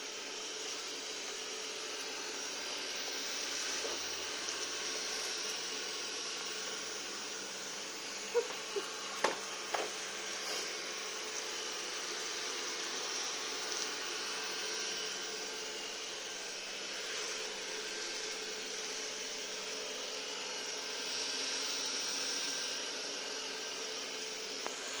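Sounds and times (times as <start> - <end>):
robot vacuum cleaner whirring: 0.0 - 25.0.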